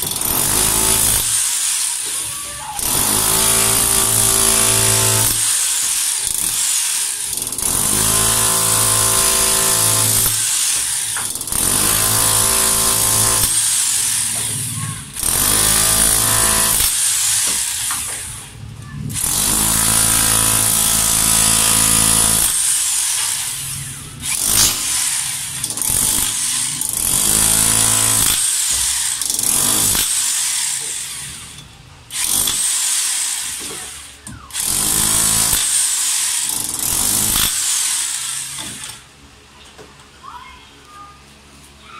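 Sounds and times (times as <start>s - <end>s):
demolition hammer chiselling concrete: 0.0s - 18.5s, 19.1s - 31.5s, 32.1s - 39.0s.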